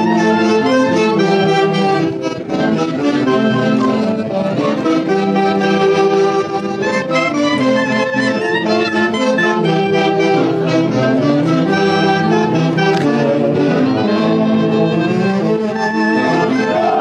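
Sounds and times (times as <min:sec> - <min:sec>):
saxophone-led orchestra horns playing: 0:00.0 - 0:17.0.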